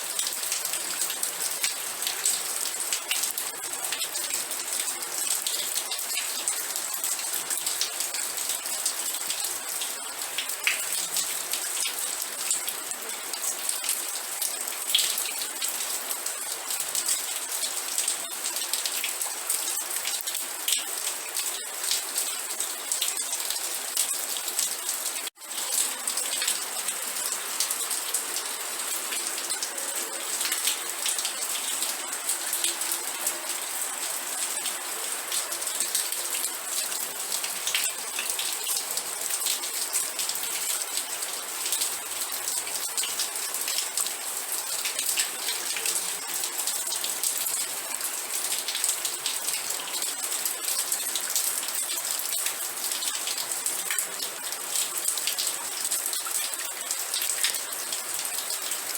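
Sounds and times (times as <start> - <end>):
rain drops on hard surface: 0.0 - 58.9.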